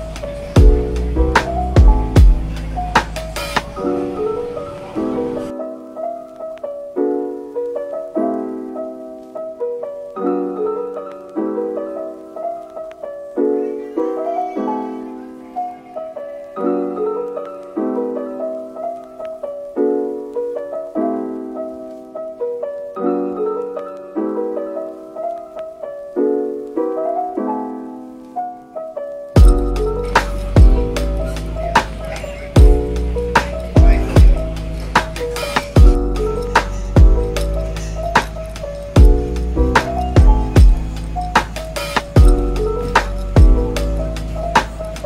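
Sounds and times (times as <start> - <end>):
soft piano chords: 0.0 - 45.0.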